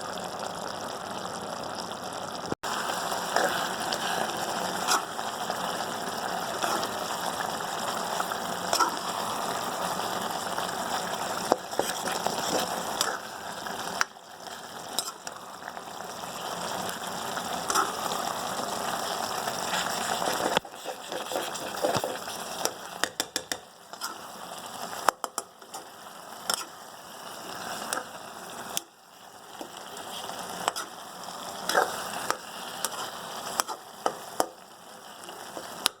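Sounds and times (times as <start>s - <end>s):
food frying in a pan: 0.0s - 36.0s.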